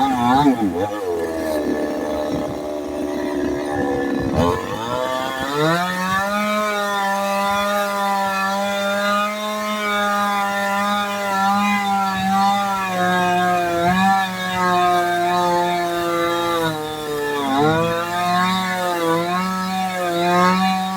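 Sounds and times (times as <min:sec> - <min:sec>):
chainsaw engine revving: 0:00.0 - 0:20.9.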